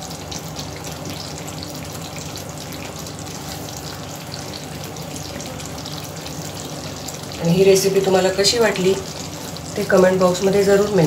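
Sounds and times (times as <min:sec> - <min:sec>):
gravy sizzling and popping: 0:00.0 - 0:11.0.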